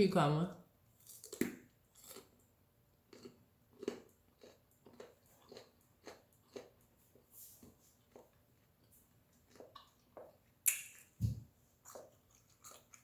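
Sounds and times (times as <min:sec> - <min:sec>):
person chewing crunchy food: 0:01.0 - 0:10.6, 0:11.6 - 0:13.0.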